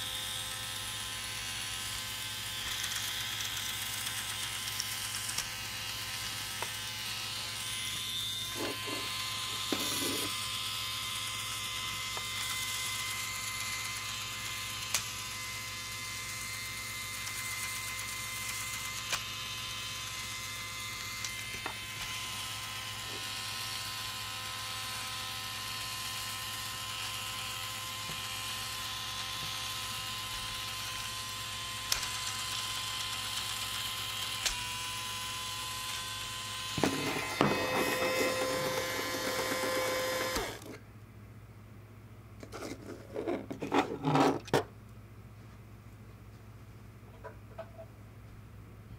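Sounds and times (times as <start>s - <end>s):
electric motor whining: 0.0s - 40.8s.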